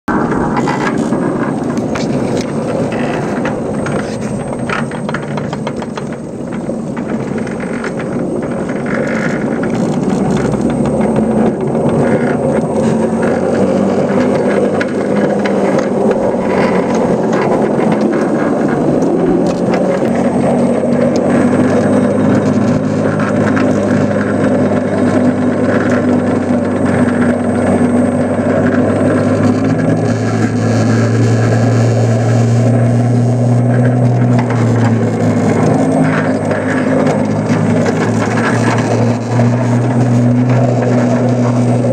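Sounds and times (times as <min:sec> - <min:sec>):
ride-on locomotive drive hum: 0:00.1 - 0:41.9
wheel and track rattle: 0:00.1 - 0:41.9.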